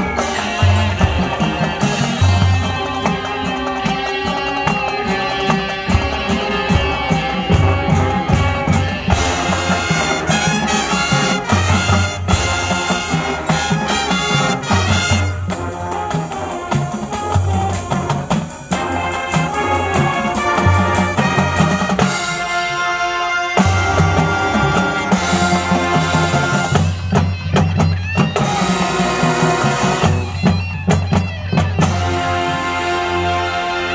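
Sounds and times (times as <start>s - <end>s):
drum kit: 0.0s - 22.8s, 23.6s - 33.9s
marching band brass: 0.0s - 33.9s.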